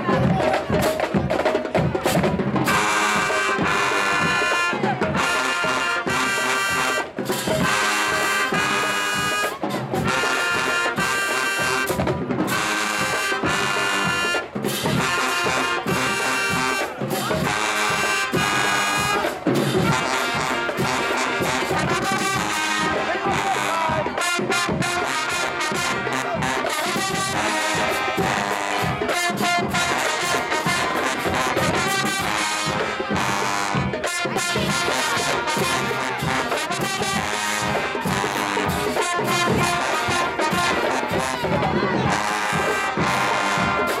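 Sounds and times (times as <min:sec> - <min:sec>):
drumline beat: 0:00.0 - 0:44.0
marching band brass chords: 0:00.0 - 0:44.0.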